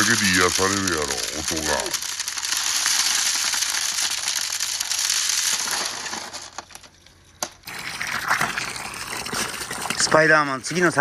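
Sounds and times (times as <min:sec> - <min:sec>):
marbles rolling and clattering: 0:00.0 - 0:11.0.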